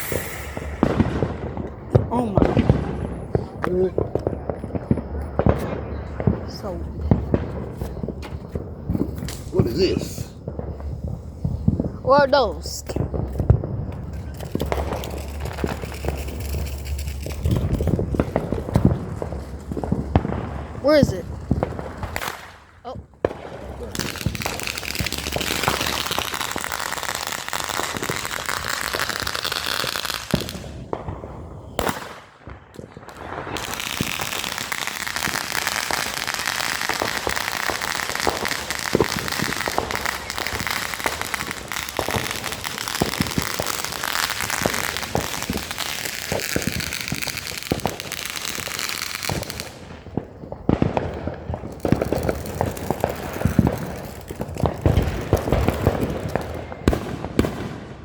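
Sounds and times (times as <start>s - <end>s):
fireworks hissing and crackling: 0.0s - 58.0s
heavy firework pops: 0.0s - 58.0s.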